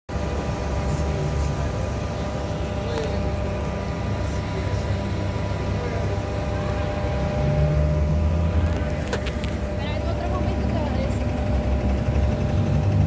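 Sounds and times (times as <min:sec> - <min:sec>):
bus engine idling: 0:00.1 - 0:13.0.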